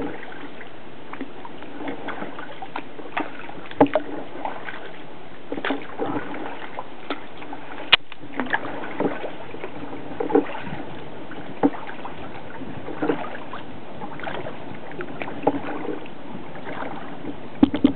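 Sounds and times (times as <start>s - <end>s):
paddle strokes splashing in water: 0.0s - 17.9s.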